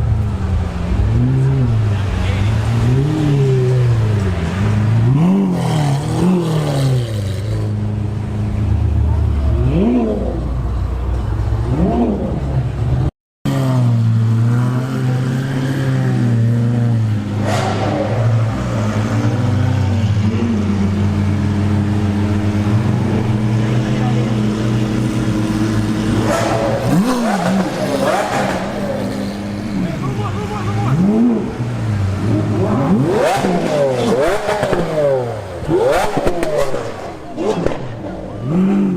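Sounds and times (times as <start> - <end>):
sports car engine revving: 0.1 - 38.9.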